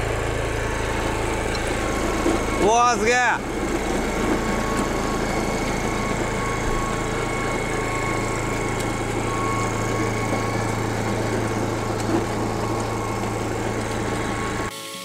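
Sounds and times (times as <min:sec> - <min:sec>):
tiller engine running under load: 0:00.0 - 0:14.7.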